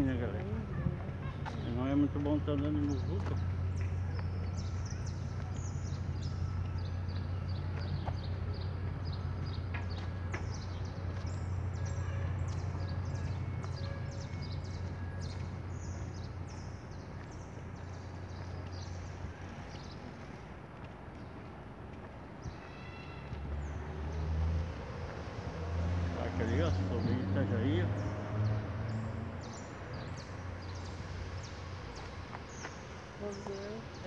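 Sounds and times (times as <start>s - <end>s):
small birds chirping: 0.0s - 21.7s, 26.2s - 34.0s
low street rumble: 0.0s - 34.0s.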